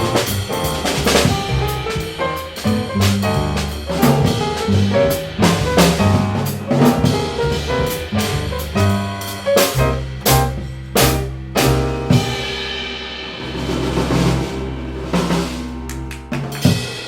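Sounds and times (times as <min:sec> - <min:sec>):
drum and cymbal strokes: 0:00.0 - 0:17.0
jazz band playing live: 0:00.0 - 0:17.0.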